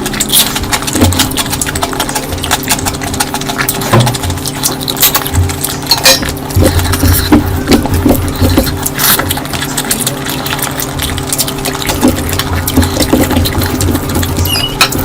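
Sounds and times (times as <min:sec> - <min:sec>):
steady low hum: 0:00.0 - 0:15.0
wet chewing sounds: 0:00.0 - 0:15.0.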